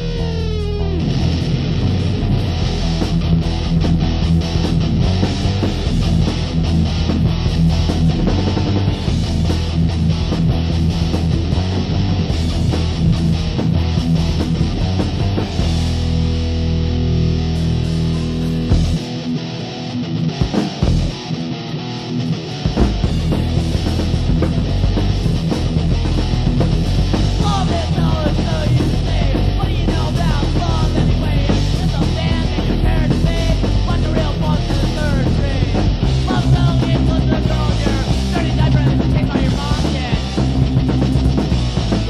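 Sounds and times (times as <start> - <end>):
punk band with electric guitar: 0.0 - 42.0.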